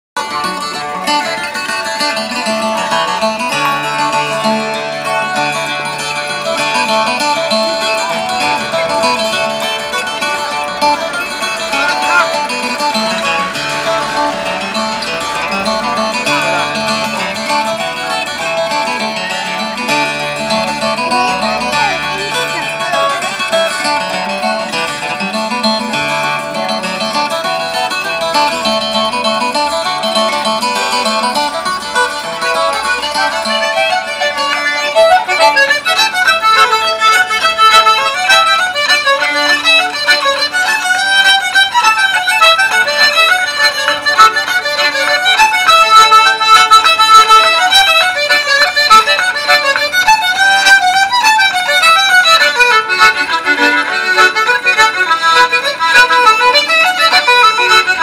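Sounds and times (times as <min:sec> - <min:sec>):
accordion: 0:00.2 - 0:58.0
fiddle: 0:00.2 - 0:58.0.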